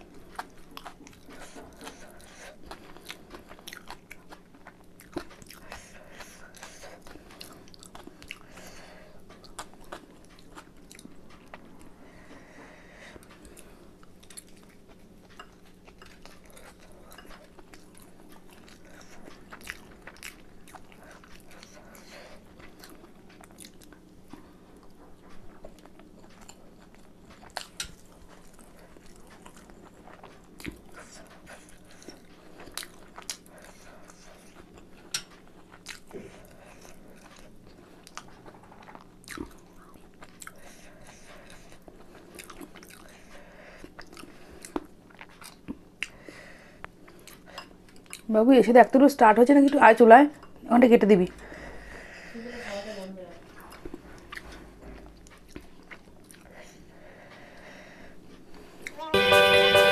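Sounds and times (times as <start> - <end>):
chewing and biting food: 0.0 - 48.3, 53.4 - 57.6
faint steady hum: 0.0 - 59.9.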